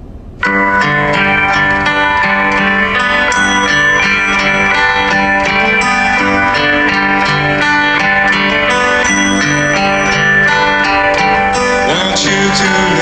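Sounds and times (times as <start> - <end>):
strummed guitar song: 0.4 - 13.0.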